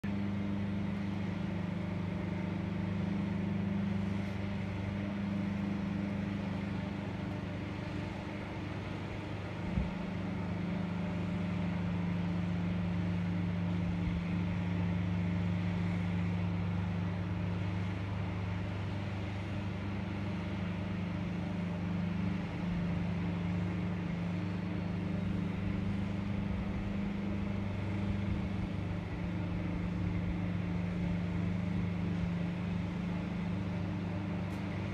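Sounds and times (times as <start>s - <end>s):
lift engine droning: 0.0s - 34.9s.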